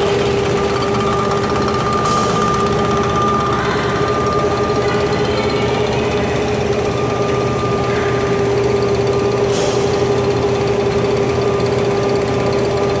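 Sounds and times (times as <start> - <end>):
constant machine hum: 0.0 - 13.0
production line machinery running: 0.0 - 13.0.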